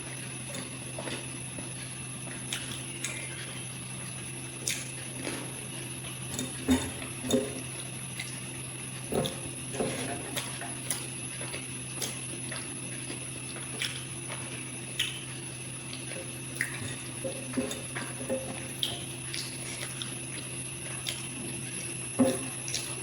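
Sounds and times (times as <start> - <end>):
chewing and slurping: 0.0 - 23.0
steady hum: 0.0 - 23.0.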